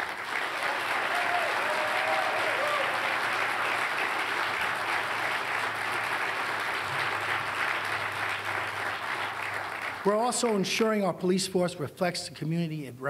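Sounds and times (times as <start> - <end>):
large audience applauding: 0.0 - 10.7.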